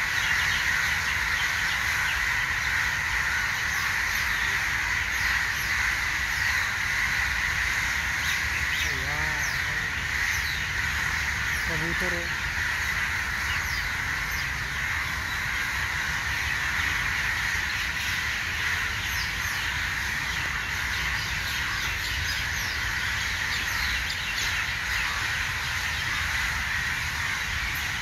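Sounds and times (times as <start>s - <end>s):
large flock of birds calling: 0.0s - 28.0s.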